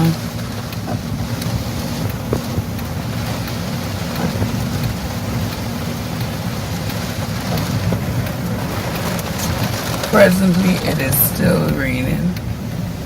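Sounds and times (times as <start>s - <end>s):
rain hiss: 0.0s - 13.0s
vehicle driving rumble: 0.0s - 13.0s
wind buffeting microphone: 0.0s - 13.0s.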